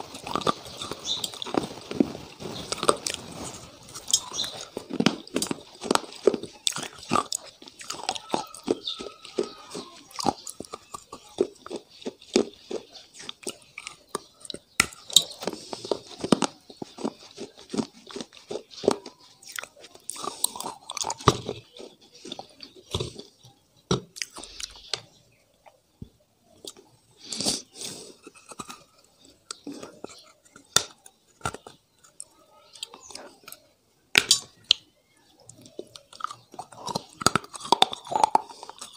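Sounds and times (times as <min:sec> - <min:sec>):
person crunching brittle food: 0:00.0 - 0:38.9.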